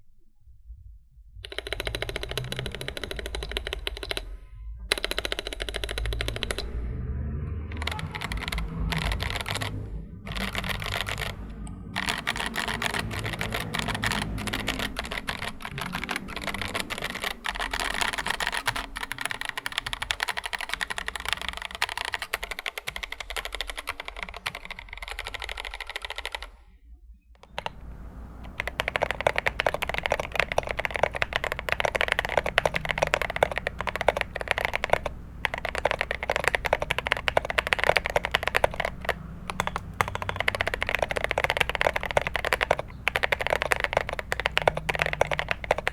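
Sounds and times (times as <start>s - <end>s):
fast mechanical keyboard typing: 1.4s - 26.6s, 27.4s - 45.9s.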